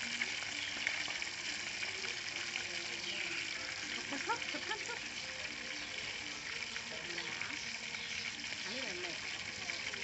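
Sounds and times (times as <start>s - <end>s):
fish sizzling in oil: 0.0s - 10.0s.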